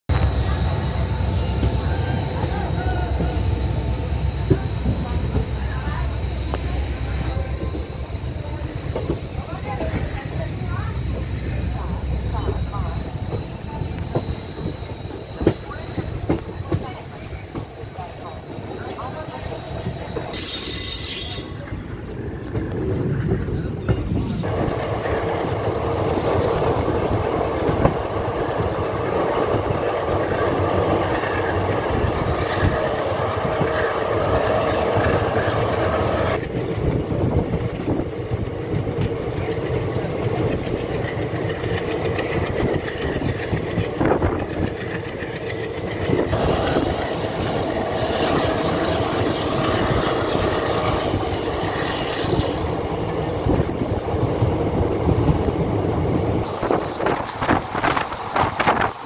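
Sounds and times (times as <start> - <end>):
train wheels rumbling on rails: 0.1 - 59.0.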